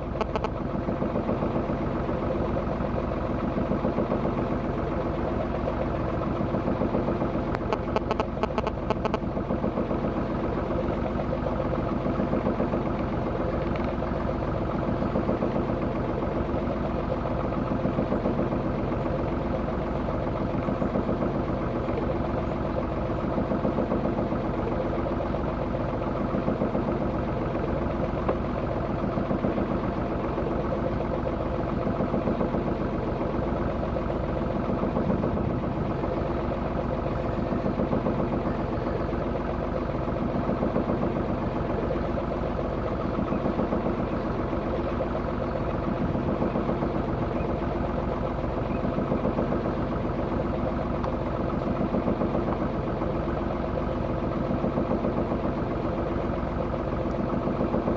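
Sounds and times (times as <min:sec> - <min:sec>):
boat engine throbbing: 0:00.0 - 0:57.9.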